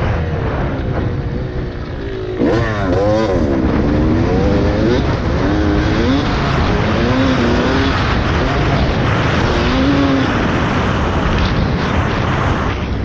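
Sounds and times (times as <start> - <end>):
dirt bike engine revving: 0.9 - 12.7.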